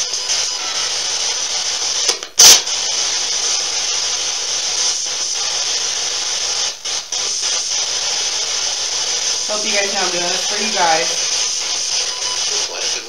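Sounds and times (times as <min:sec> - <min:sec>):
radio static hiss: 0:00.6 - 0:13.0
loud static burst: 0:02.1 - 0:13.0.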